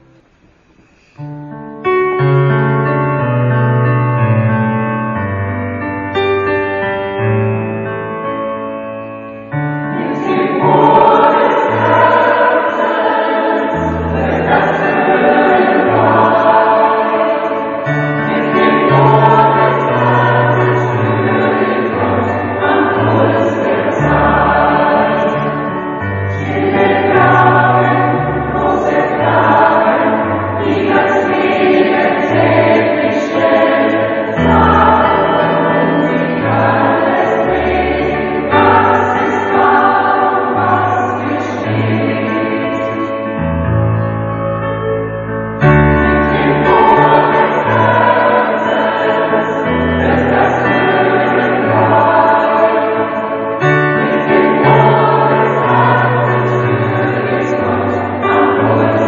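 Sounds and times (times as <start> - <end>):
choir singing: 9.5 - 44.1, 45.6 - 59.0.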